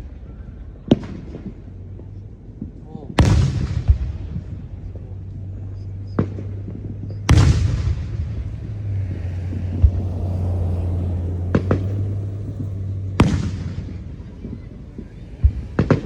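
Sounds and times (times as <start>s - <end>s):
steady low rumble: 0.0s - 16.0s
fireworks bangs: 0.8s - 16.0s.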